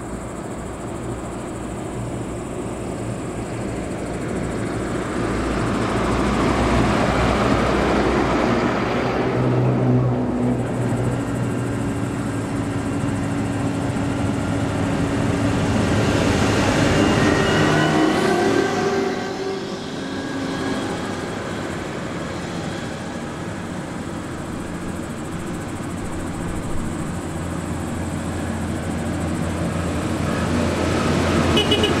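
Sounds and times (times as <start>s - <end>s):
combine harvester engine passing: 0.0s - 32.0s
tractor diesel drone: 0.0s - 32.0s.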